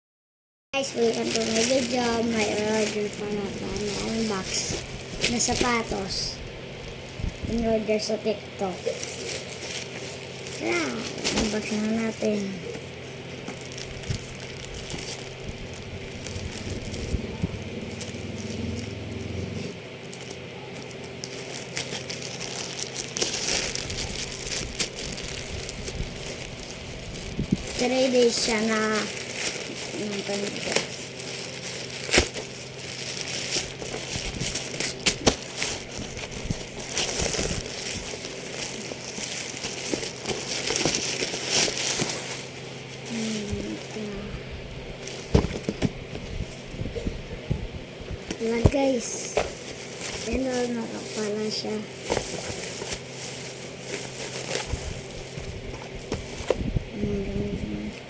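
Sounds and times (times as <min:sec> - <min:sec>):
packaging crinkling: 0:00.8 - 0:06.2, 0:06.8 - 0:18.9, 0:19.9 - 0:44.1, 0:48.2 - 0:56.8.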